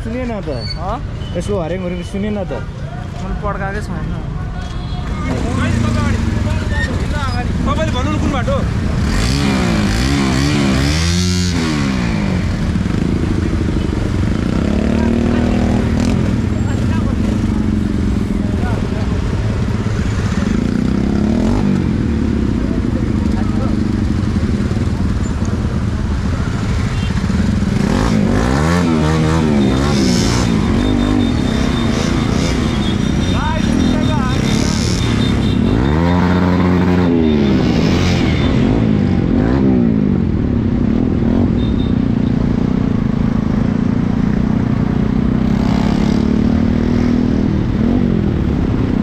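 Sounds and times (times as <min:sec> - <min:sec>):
motorcycle engines running: 0:00.0 - 0:49.0
motorcycle engine revving: 0:05.2 - 0:49.0.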